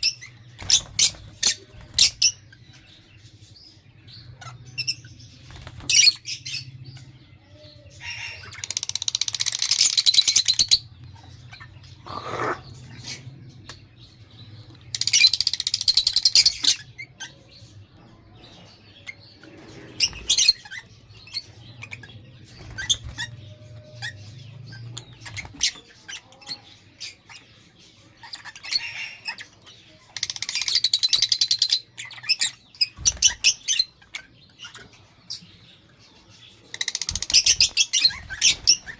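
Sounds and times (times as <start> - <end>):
lovebirds chirping: 0.0 - 38.9
lovebirds shrill chatter: 0.0 - 38.9.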